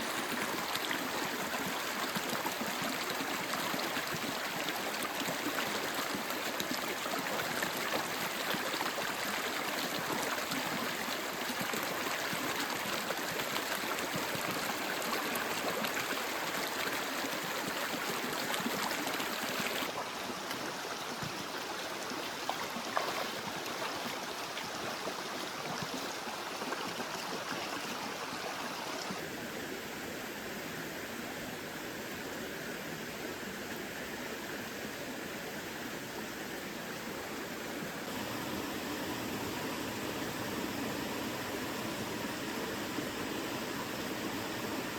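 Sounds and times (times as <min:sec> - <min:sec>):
mountain stream rushing: 0:00.0 - 0:30.1, 0:32.8 - 0:44.9.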